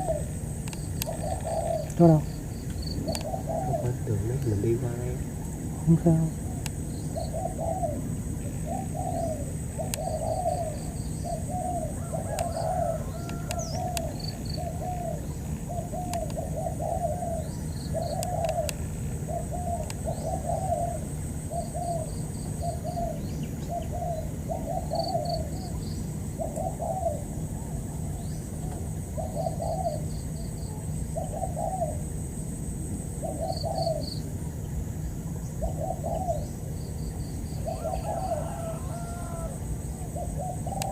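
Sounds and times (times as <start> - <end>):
doves cooing: 0.0 - 32.3, 33.1 - 34.5, 35.4 - 36.7, 37.4 - 40.9.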